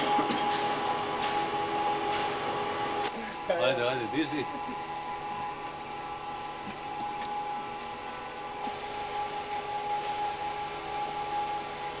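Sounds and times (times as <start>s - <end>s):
motor humming and whining: 0.0s - 12.0s.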